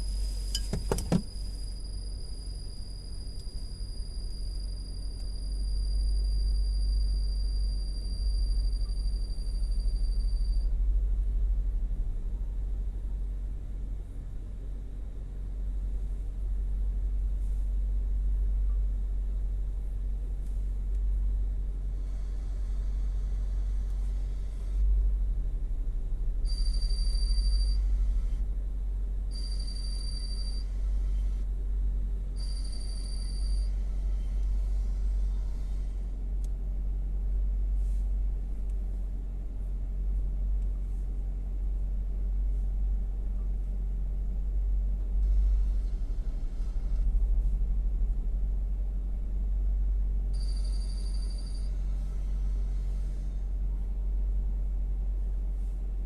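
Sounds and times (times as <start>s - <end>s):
car engine idling: 0.0s - 7.6s, 8.2s - 29.4s, 33.7s - 50.5s.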